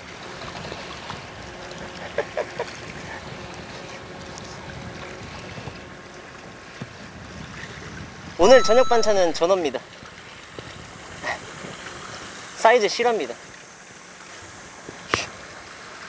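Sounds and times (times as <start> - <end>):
sea wash: 0.0 - 16.0
wind: 0.0 - 16.0.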